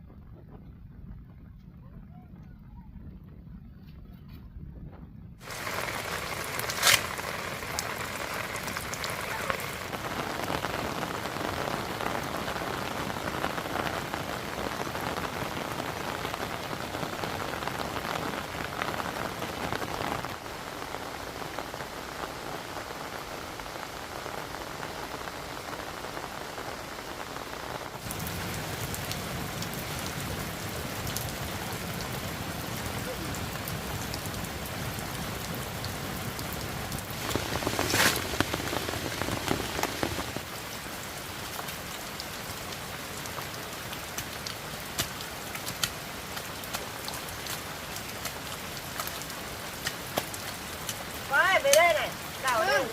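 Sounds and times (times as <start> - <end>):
heavy rain falling: 5.4 - 52.9.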